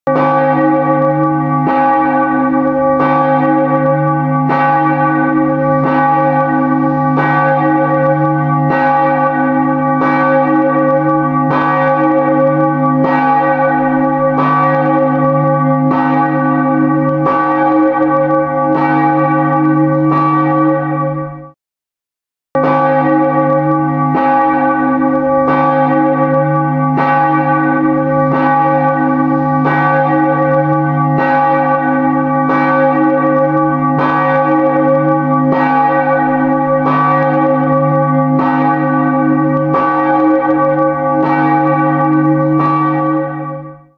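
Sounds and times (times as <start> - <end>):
church bell tolling: 0.1 - 21.6, 22.6 - 43.9.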